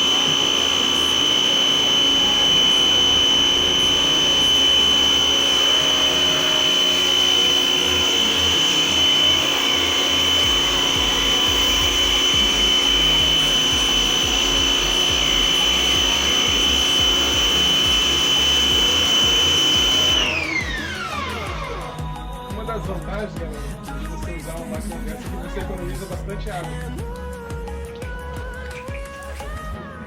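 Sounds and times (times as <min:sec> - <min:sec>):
pressure washer high whine: 0:00.0 - 0:27.3.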